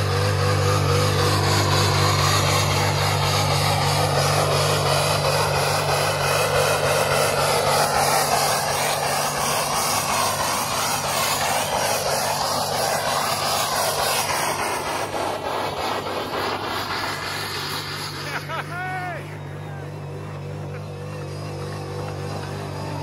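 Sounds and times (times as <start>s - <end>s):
car engine at high revs: 0.0s - 23.0s
wheels spinning in snow: 0.0s - 23.0s.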